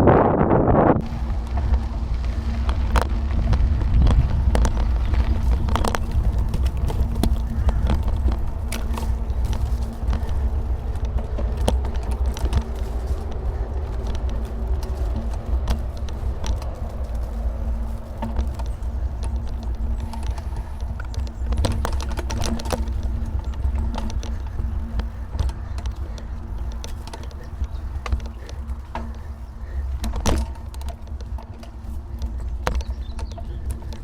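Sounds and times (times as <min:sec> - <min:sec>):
wind and road rumble: 0:00.0 - 0:34.0
bicycle rattles and knocks: 0:01.0 - 0:34.0.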